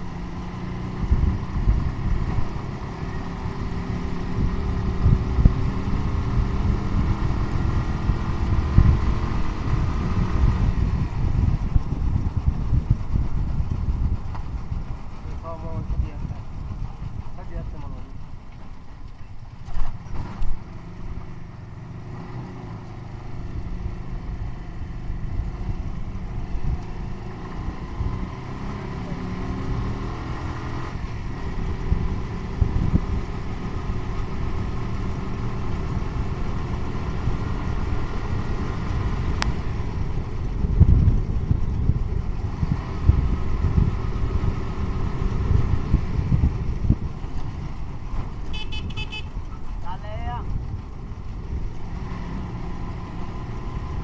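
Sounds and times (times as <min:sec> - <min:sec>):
motorcycle engine running: 0:00.0 - 0:22.0, 0:22.6 - 0:54.0
road rumble: 0:00.0 - 0:54.0
wind: 0:00.0 - 0:54.0.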